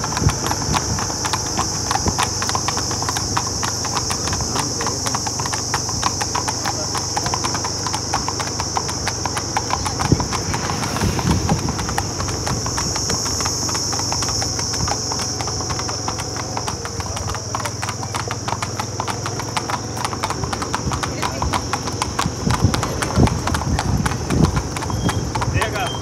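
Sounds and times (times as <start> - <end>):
hooves clip-clopping on asphalt: 0.0 - 26.0.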